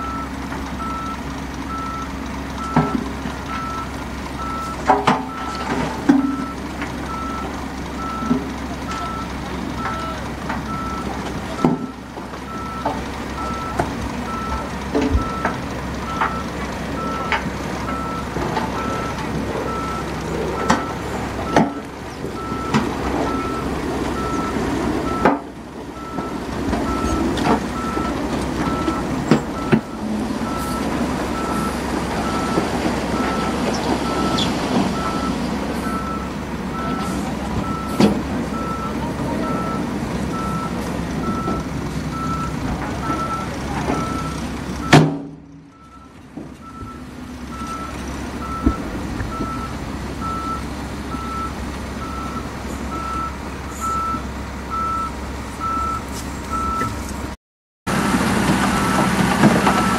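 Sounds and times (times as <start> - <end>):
reversing alarm beeping: 0.0 - 45.0, 45.7 - 57.1, 57.9 - 59.9
heavy diesel engines running: 0.0 - 59.9.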